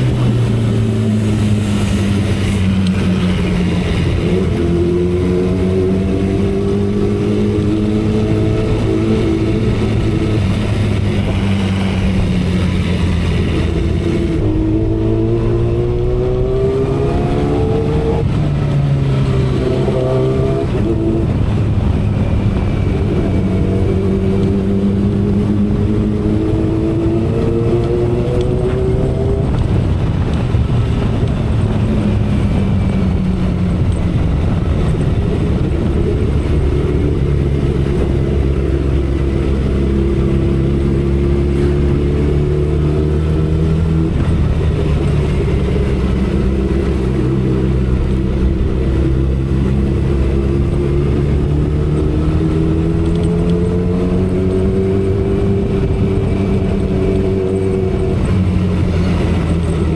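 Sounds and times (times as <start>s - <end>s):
motorcycle engine cruising: 0.0s - 59.9s
wind rumble: 0.0s - 59.9s.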